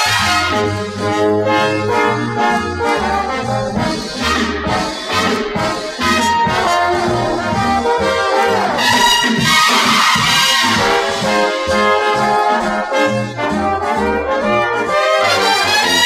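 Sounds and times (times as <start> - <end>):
brass-led orchestral music: 0.0 - 16.0.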